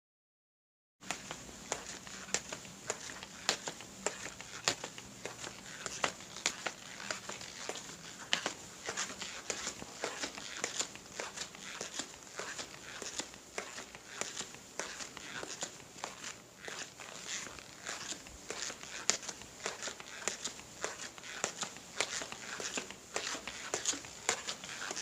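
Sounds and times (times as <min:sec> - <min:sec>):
footsteps walking: 0:01.0 - 0:25.0.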